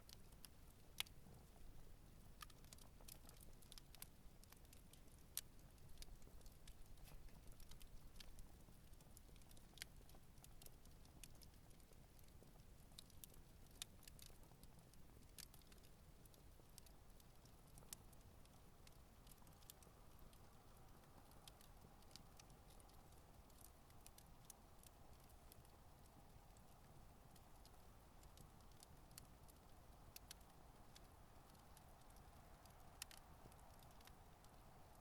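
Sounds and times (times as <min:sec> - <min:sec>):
campfire crackling and popping: 0:00.0 - 0:35.0
low fire rumble: 0:00.0 - 0:35.0.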